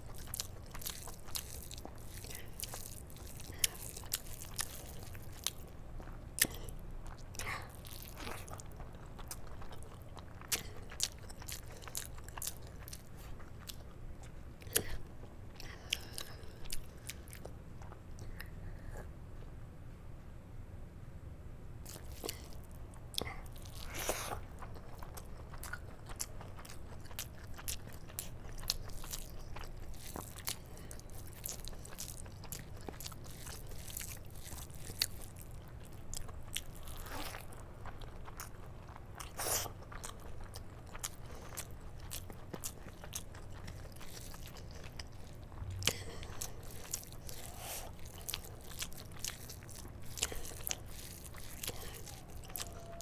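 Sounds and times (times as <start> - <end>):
wet chewing and mouth clicks: 0.0 - 18.9, 21.8 - 53.0.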